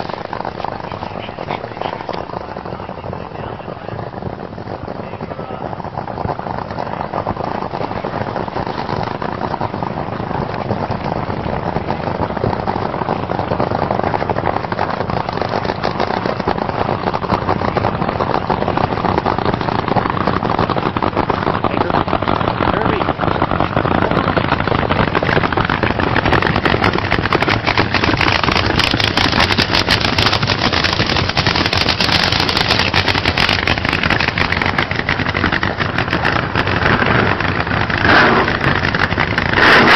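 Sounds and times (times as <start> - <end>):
drag racing car engine crackling: 0.0 - 39.9.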